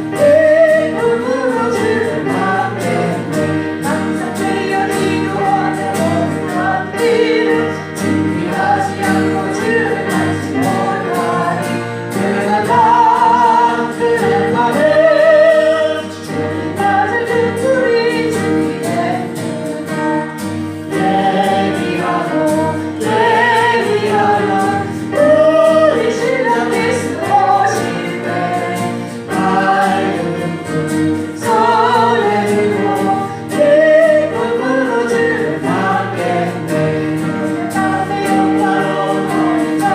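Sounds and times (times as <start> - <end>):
congregation singing a hymn: 0.0 - 39.9
keyboard or organ accompaniment: 0.0 - 39.9.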